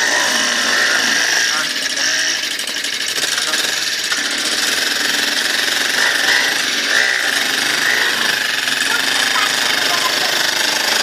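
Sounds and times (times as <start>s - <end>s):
small dirt bike engine buzzing: 0.0s - 11.0s.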